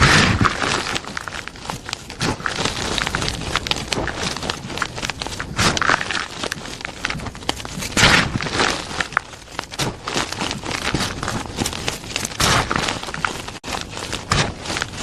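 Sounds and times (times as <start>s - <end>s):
chalk blocks crunching: 0.0s - 15.0s.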